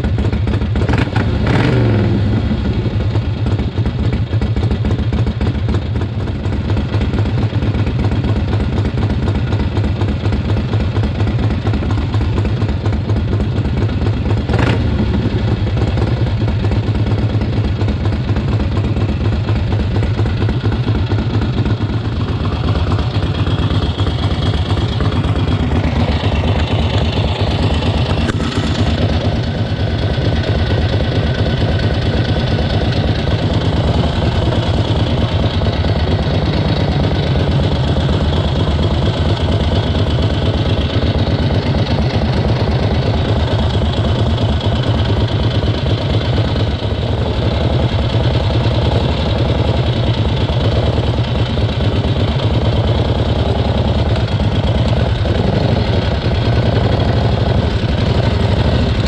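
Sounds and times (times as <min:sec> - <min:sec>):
v-twin motorcycle engine idling: 0:00.0 - 0:59.0.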